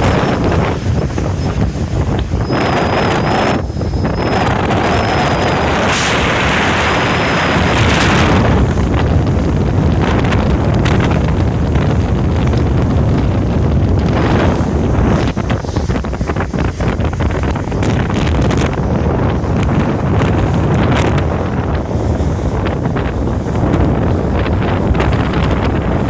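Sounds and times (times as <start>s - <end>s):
diesel engines rumbling: 0.0s - 26.0s
water rushing past hull: 0.0s - 26.0s
wind buffeting microphone: 0.0s - 26.0s.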